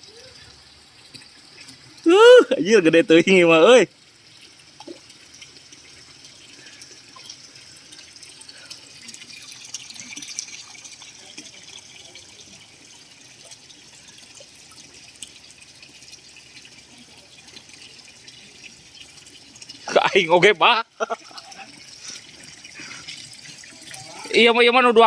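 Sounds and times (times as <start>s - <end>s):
water drips: 0.0s - 25.0s
water trickling and splashing: 0.0s - 25.0s.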